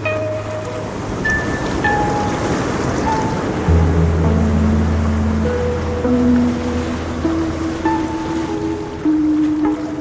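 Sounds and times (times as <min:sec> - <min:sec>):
ocean surf washing: 0:00.0 - 0:10.0
soft background music: 0:00.0 - 0:10.0.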